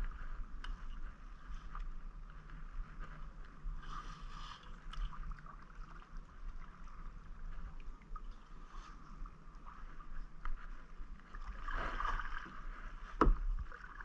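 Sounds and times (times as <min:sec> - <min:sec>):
low rumble: 0:00.0 - 0:13.8
paddle splashing water: 0:00.0 - 0:14.0.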